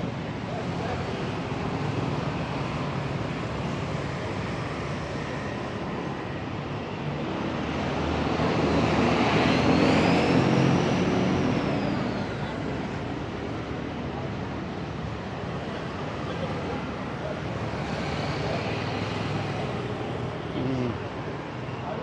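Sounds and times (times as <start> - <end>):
motorbikes and cars humming: 0.0 - 22.0
passing vehicle whine: 0.0 - 22.0.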